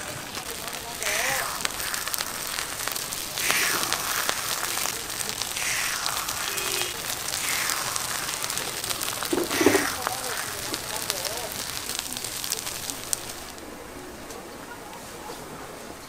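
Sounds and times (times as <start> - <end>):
oil sizzling in a deep fryer: 0.0 - 13.8.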